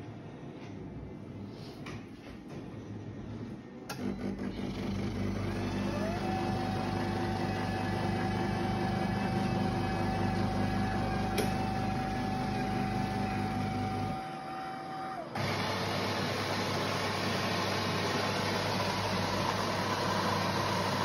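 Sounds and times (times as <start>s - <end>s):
coffee machine motor hum: 3.9s - 21.0s.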